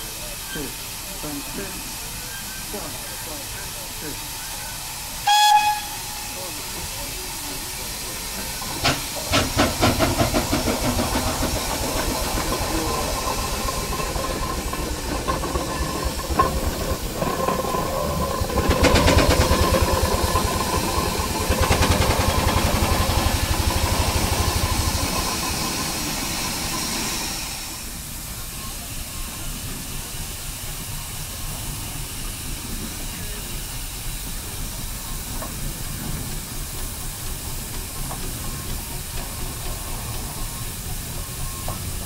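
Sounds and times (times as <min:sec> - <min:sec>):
hiss of escaping steam: 0:00.0 - 0:42.0
steam engine exhaust chuffs: 0:00.0 - 0:42.0.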